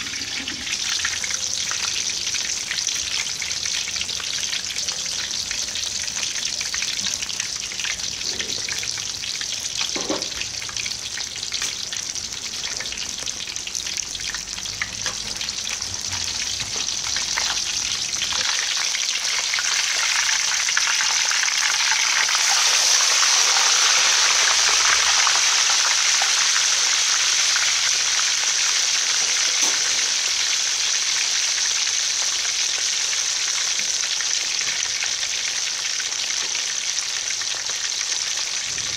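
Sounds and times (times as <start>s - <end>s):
fish deep-frying in oil: 0.0s - 38.9s.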